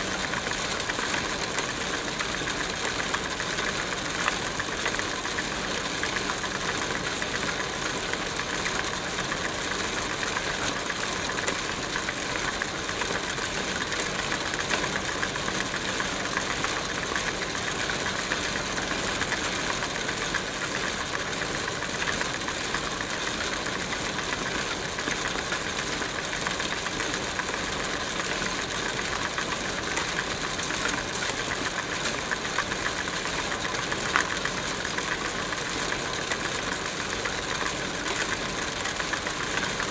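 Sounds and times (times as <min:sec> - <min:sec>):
bicycle chain and tyres whirring: 0:00.0 - 0:39.9.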